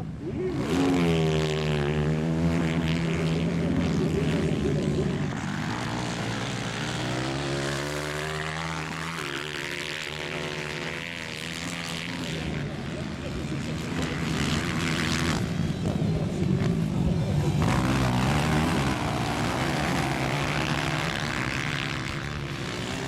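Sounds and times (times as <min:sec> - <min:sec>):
motorcycle engine accelerating: 0:00.0 - 0:23.0
motorcycle engines racing: 0:00.0 - 0:23.0.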